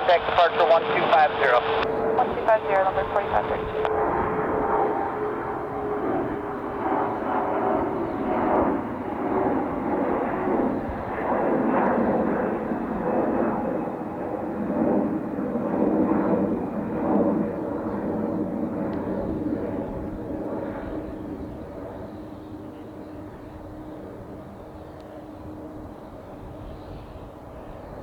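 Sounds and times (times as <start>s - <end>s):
faint high engine whine: 0.0s - 28.0s
jet engines rumbling: 0.0s - 28.0s.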